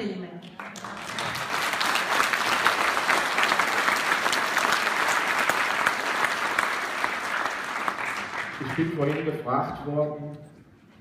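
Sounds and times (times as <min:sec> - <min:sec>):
large audience applauding: 0:00.4 - 0:09.5.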